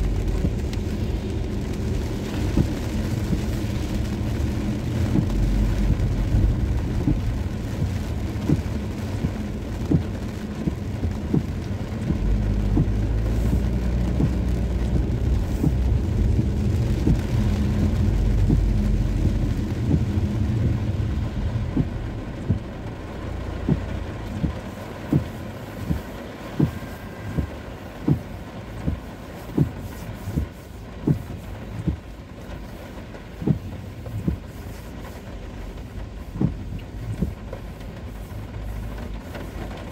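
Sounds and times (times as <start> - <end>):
car engine and wet road rumble: 0.0 - 39.9.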